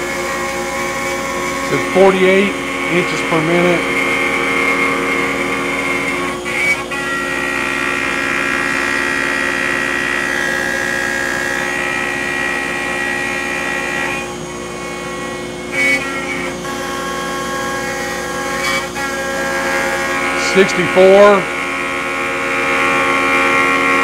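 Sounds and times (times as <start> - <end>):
router spindle whining: 0.0 - 24.0.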